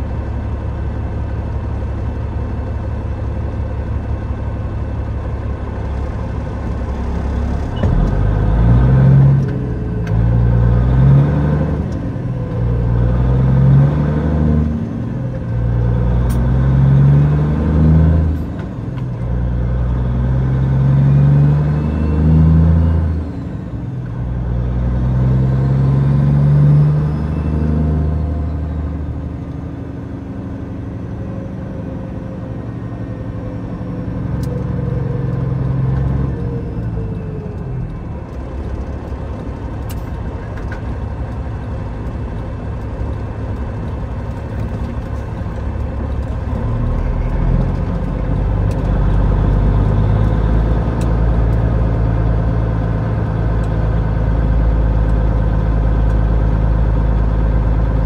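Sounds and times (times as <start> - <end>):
diesel truck engine under load: 0.0 - 58.0
road noise: 0.0 - 58.0.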